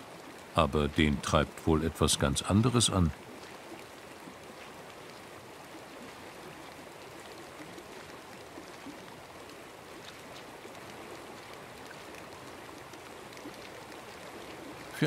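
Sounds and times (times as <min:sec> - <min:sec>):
running water: 0:00.0 - 0:15.0
water dripping: 0:00.0 - 0:15.0.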